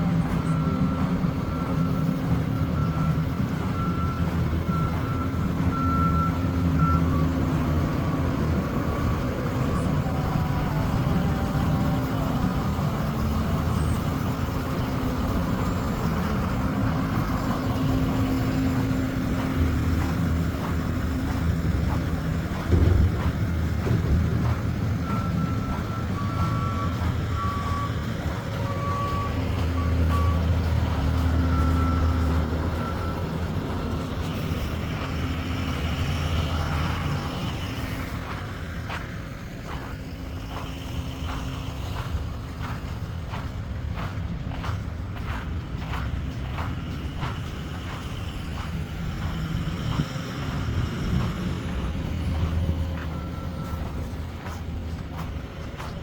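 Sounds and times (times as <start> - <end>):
reversing beeper: 0.0 - 38.2, 46.4 - 56.0
truck engine running: 0.0 - 56.0.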